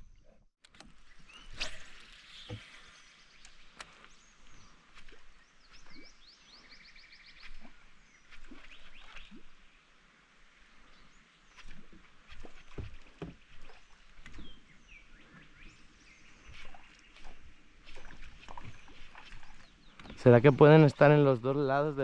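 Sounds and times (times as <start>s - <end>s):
birds calling and singing: 0.0s - 9.9s, 10.7s - 22.0s.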